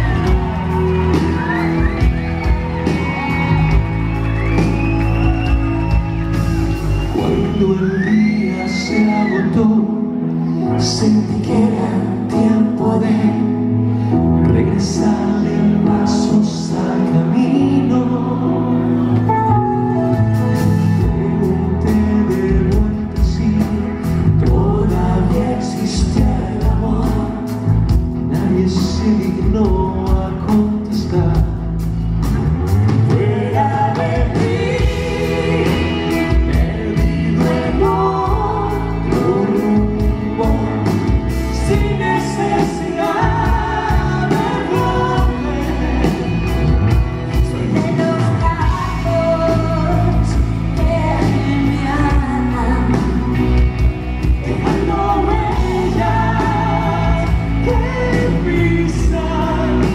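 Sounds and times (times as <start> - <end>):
pop band playing: 0.0 - 59.9
man and woman singing: 7.2 - 13.7, 14.4 - 19.2, 20.8 - 31.6, 33.0 - 59.9.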